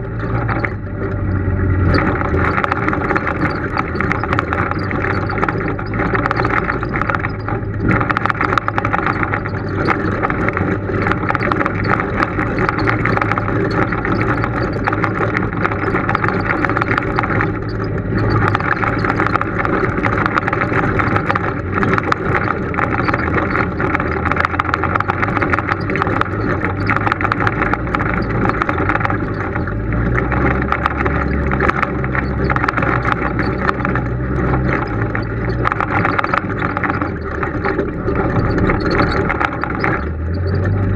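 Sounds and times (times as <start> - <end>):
knocks and rattles from bumps: 0.0 - 40.9
vehicle engine running: 0.0 - 40.9.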